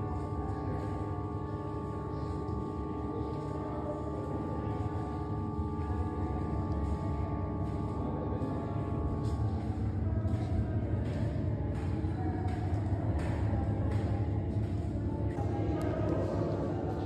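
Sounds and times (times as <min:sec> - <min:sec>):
gong-like ringing tones drone: 0:00.0 - 0:17.0.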